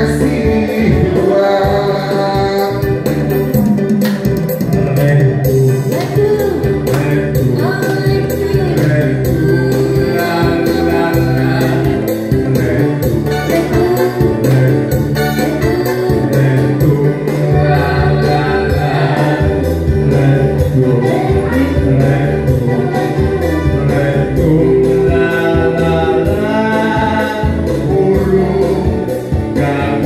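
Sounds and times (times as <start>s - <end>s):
electronic keyboard with beat: 0.0s - 30.0s
person singing: 0.0s - 30.0s.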